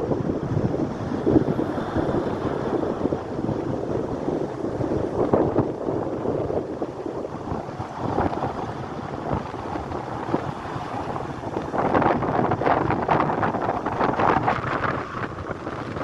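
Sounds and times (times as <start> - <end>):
rough sea surf: 0.0 - 16.0
wind buffeting microphone: 0.0 - 16.0.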